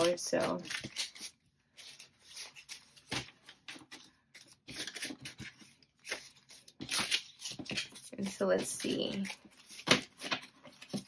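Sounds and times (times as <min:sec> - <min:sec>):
paper bills rustling: 0:00.0 - 0:11.0.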